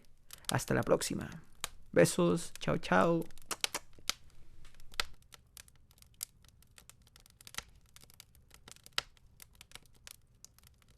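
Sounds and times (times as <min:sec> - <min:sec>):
campfire crackling and popping: 0:00.0 - 0:10.9.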